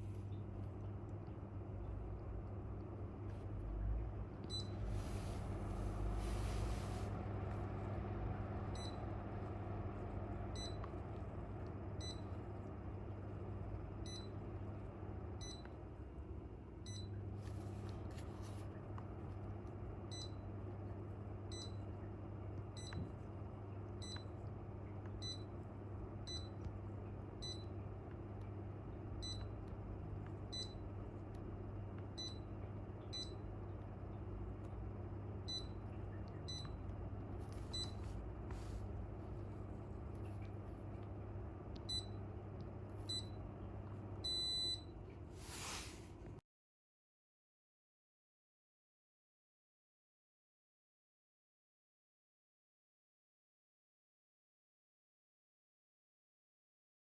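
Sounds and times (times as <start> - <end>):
air conditioner humming: 0.0 - 46.4.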